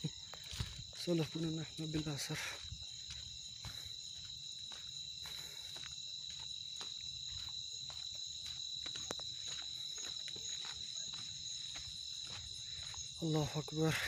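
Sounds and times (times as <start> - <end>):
crickets chirping: 0.0 - 14.0
footsteps on dirt path: 0.0 - 14.0.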